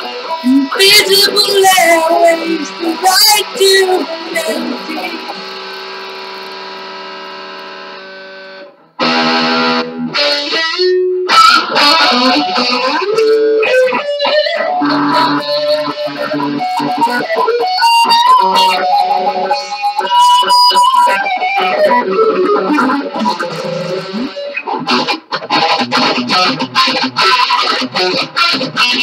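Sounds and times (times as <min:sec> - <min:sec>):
electric guitar solo: 0:00.0 - 0:29.0.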